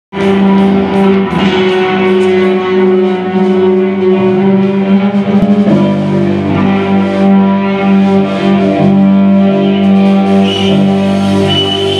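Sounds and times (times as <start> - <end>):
electric bass: 0.1 - 11.9
electric guitars: 0.1 - 11.9
drum kit with cymbals: 0.2 - 11.9.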